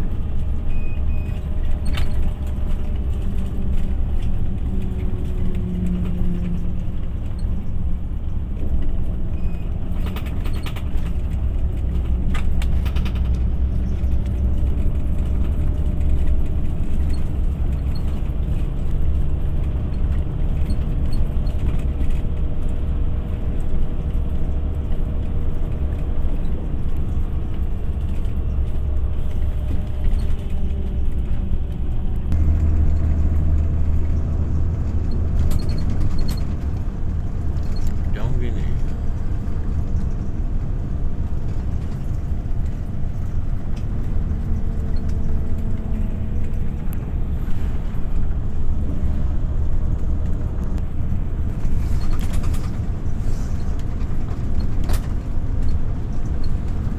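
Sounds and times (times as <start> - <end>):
motor vehicle engine rumbling: 0.0 - 56.9.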